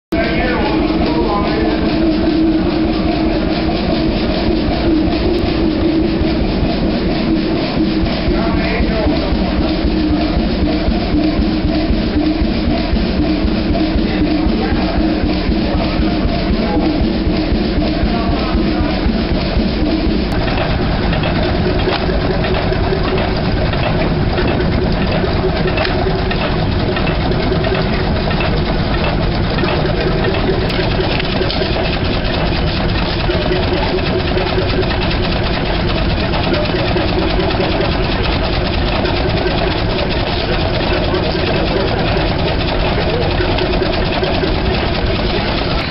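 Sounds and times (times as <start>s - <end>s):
large engine running steadily: 0.1s - 45.9s
single-cylinder engine running outdoors: 0.1s - 45.9s.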